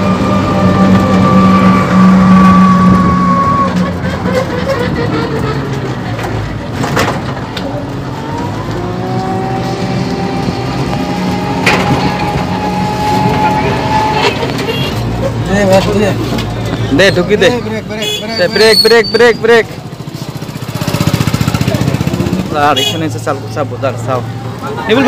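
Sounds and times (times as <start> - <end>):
rumble of moving vehicle: 0.0 - 25.0.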